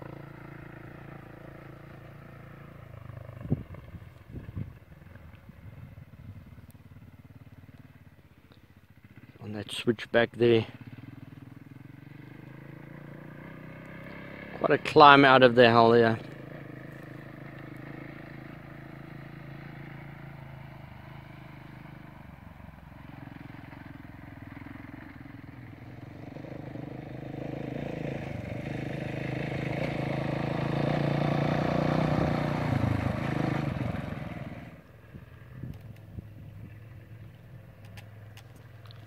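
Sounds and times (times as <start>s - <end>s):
motorcycle engine climbing: 0.0s - 39.0s.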